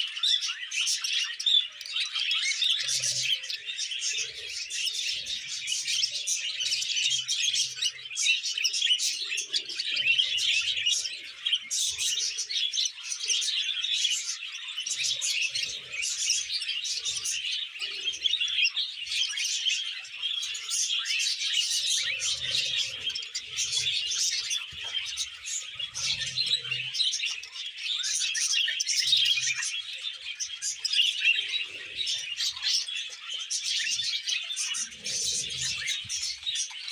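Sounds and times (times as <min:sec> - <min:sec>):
budgerigars chattering: 0:00.0 - 0:36.9.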